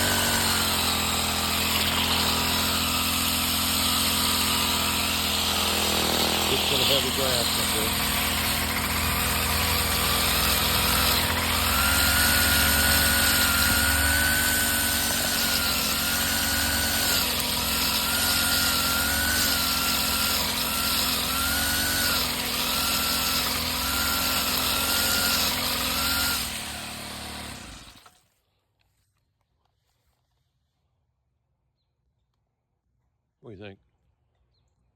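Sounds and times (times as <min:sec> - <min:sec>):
string trimmer engine running: 0:00.0 - 0:28.2.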